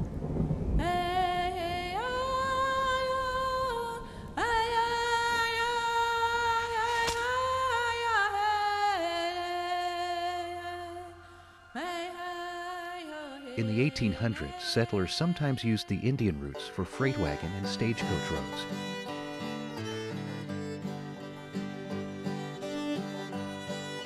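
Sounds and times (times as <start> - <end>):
slow wordless melody: 0.8 - 24.0.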